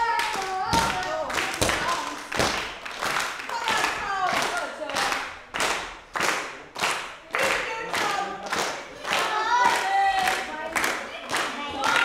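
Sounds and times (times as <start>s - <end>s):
crowd clapping in unison: 0.0s - 12.0s.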